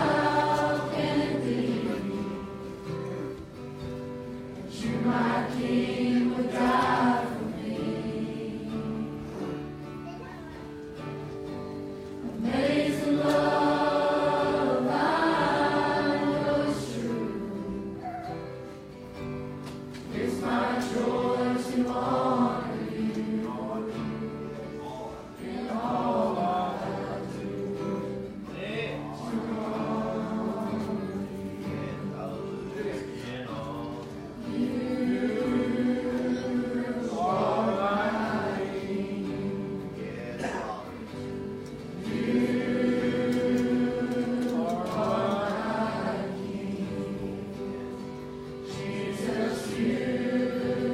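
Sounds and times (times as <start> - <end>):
group singing gospel song: 0.0 - 9.9, 11.2 - 50.9.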